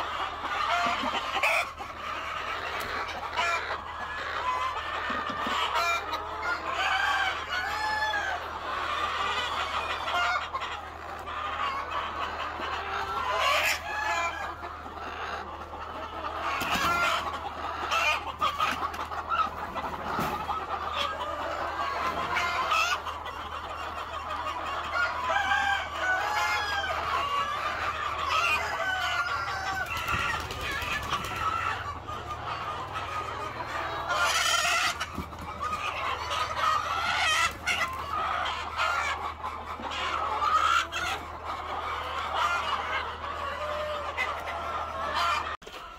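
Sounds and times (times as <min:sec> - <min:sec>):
chickens clucking and cackling: 0:00.0 - 0:45.9.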